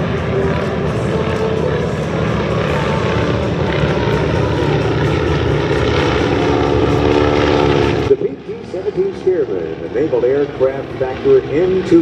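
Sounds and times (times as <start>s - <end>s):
propeller biplanes droning overhead: 0.0s - 12.0s.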